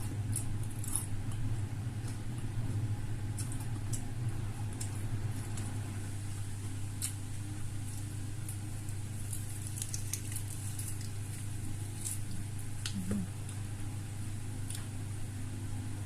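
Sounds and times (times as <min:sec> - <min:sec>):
chewing crispy food: 0:00.0 - 0:15.4.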